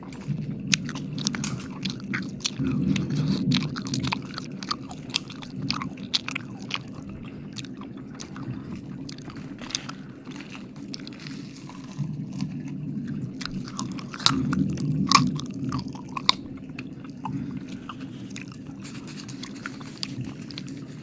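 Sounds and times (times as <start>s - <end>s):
wet mouth clicks and smacks: 0.8s - 12.5s, 13.4s - 20.9s.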